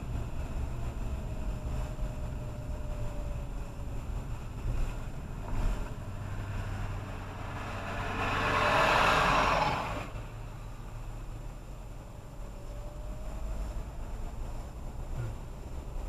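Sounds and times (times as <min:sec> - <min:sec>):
car road rumble from inside: 0:00.0 - 0:16.0.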